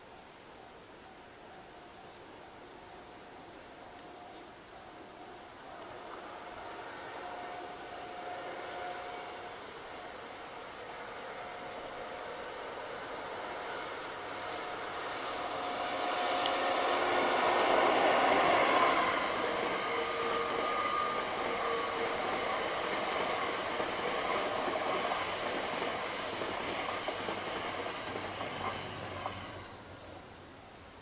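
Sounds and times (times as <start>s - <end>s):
train passing on track: 2.6s - 30.6s.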